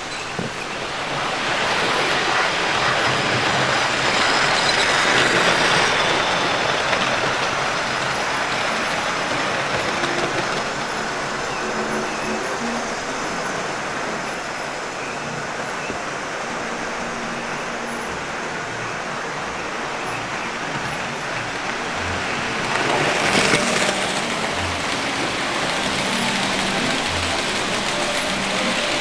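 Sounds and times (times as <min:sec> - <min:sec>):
model trains whirring on track: 0:00.0 - 0:29.0.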